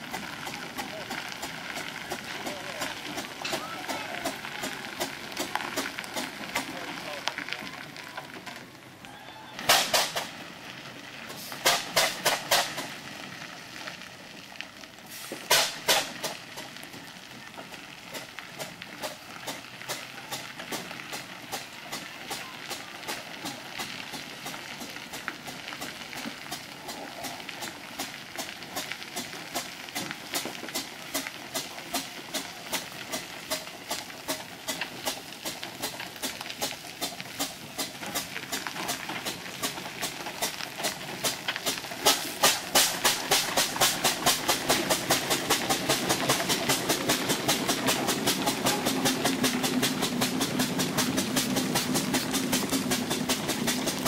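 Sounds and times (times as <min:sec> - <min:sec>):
loud exhaust blasts: 0:00.0 - 0:13.8, 0:15.0 - 0:17.3, 0:18.0 - 0:54.0
steam engine exhaust chuffing: 0:00.0 - 0:54.0.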